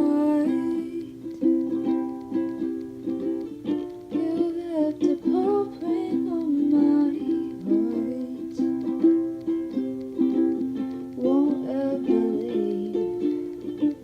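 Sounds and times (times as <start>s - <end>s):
wordless vocal melody: 0.0s - 2.9s, 4.0s - 14.0s
ukulele playing: 0.0s - 14.0s.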